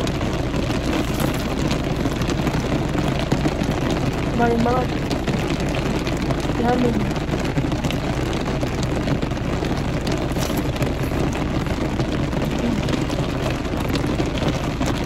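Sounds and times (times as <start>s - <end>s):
heavy rain on a car roof: 0.0s - 15.0s.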